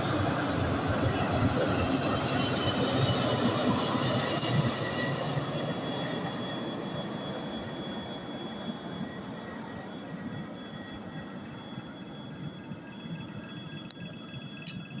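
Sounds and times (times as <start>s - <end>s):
faint steady whine: 0.0s - 15.0s
jet engines rumbling: 0.0s - 15.0s.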